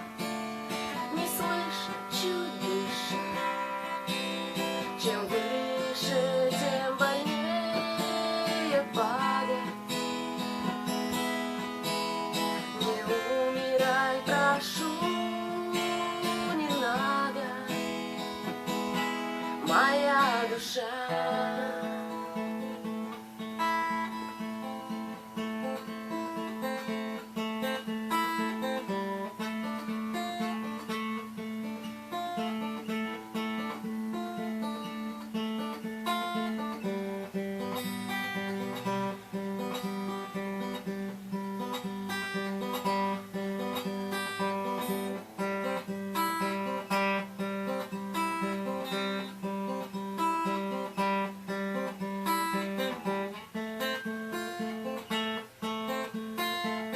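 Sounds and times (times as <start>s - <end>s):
acoustic guitar strumming: 0.0s - 56.9s.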